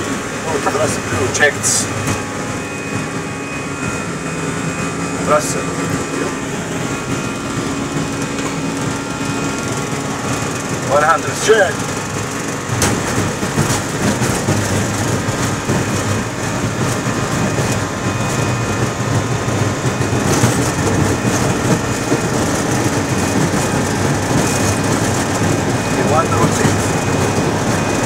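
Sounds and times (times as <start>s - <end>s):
jet engines at takeoff thrust: 0.0s - 28.0s
wheels rumbling on runway: 0.0s - 28.0s.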